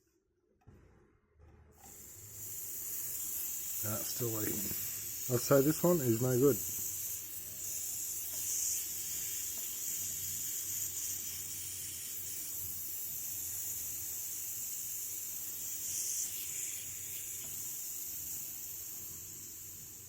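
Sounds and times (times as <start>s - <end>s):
compressed air hissing: 1.8s - 20.0s.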